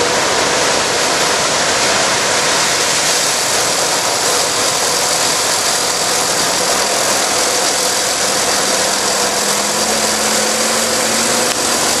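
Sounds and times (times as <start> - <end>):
harvester engine and cutterhead din: 0.0 - 12.0
hiss of crop flow: 0.0 - 12.0.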